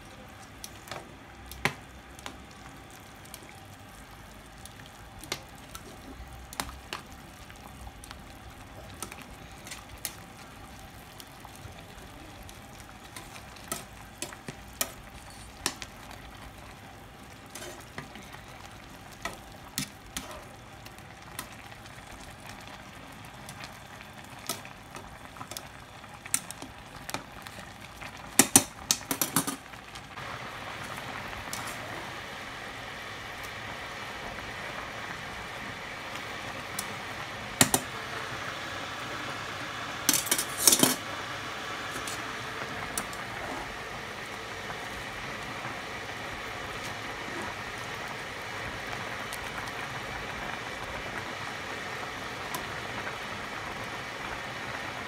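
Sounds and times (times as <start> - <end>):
pot of water boiling: 0.0 - 55.0.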